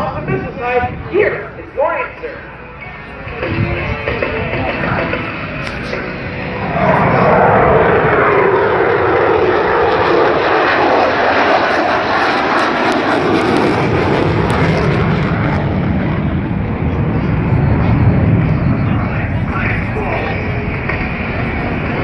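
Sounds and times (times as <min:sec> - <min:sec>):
fighter jet fly-by: 0:00.0 - 0:22.0.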